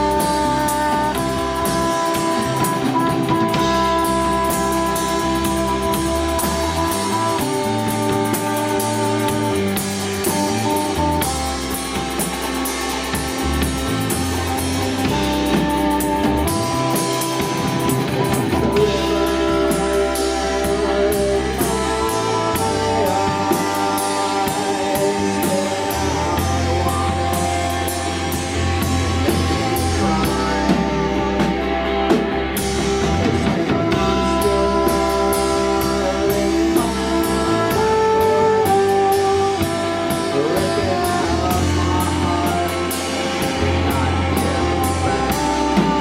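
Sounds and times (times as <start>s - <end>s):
rock band playing: 0.0s - 46.0s.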